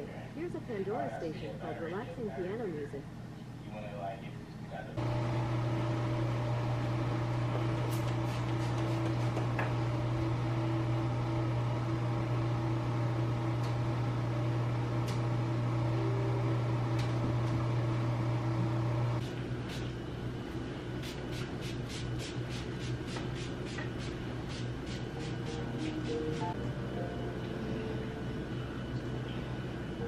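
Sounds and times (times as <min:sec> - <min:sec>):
appliance electrical hum: 0:00.0 - 0:30.0.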